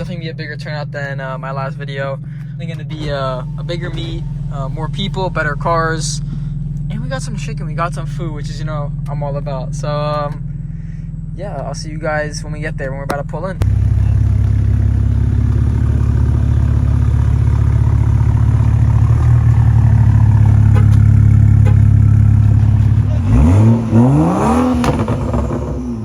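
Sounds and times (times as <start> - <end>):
car engine revving: 0.0 - 9.1, 13.6 - 26.0.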